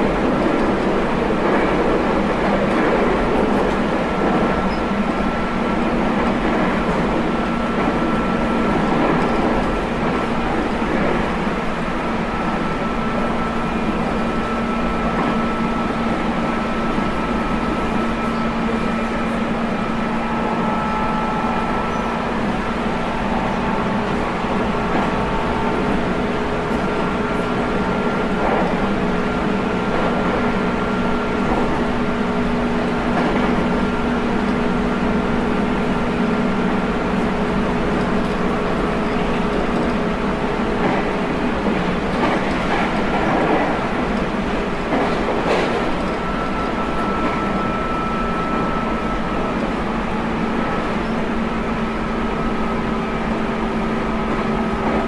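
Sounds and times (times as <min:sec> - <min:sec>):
electric train rolling rumble: 0:00.0 - 0:55.0.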